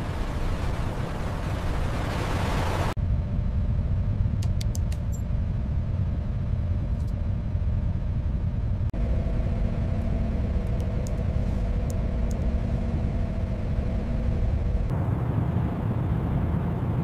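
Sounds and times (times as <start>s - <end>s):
heavy machinery rumble: 0.0s - 17.0s
faint steady hum: 3.0s - 17.0s.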